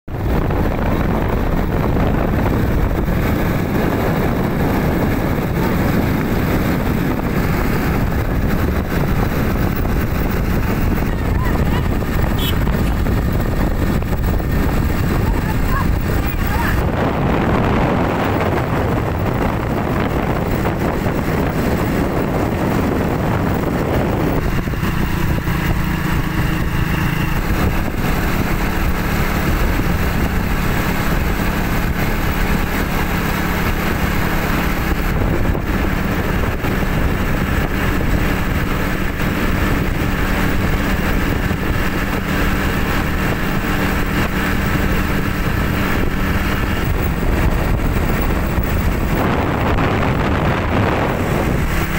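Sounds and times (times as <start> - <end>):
motorcycle engine running: 0.1 - 51.9
wind on microphone: 0.1 - 51.9.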